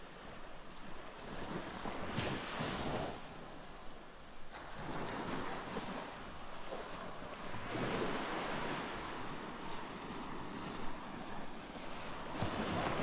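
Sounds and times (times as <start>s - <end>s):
sea waves breaking: 0.0s - 13.0s
wind on microphone: 0.0s - 13.0s.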